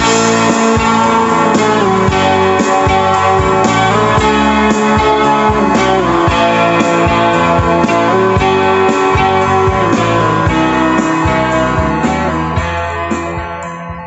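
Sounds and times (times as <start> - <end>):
guitar-led music with steady beat: 0.0 - 14.0.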